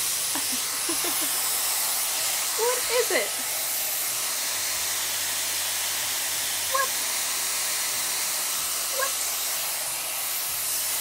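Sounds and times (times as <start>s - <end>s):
hair styler blowing air: 0.0s - 11.0s.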